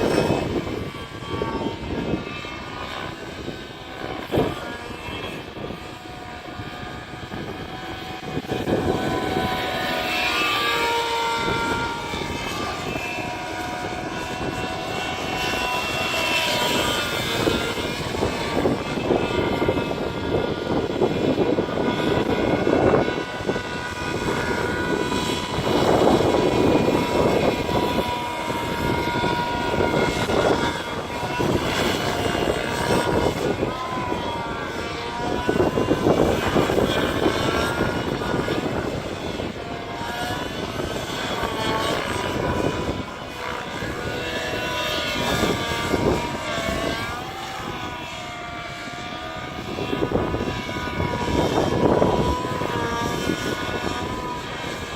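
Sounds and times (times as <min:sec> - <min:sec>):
model helicopter engine and rotors: 0:00.0 - 0:54.9.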